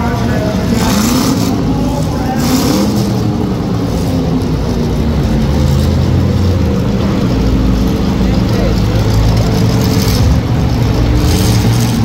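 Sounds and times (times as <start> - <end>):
car engines running loud: 0.0 - 12.0.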